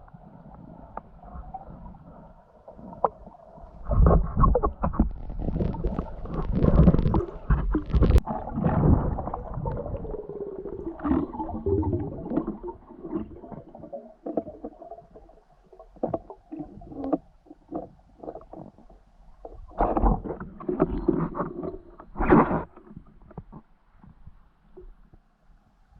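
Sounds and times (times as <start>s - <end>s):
underwater water bubbling: 0.0s - 23.6s.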